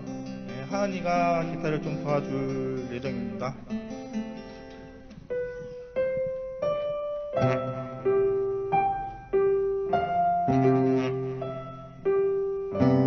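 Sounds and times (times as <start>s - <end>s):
piano ballad: 0.0s - 13.0s.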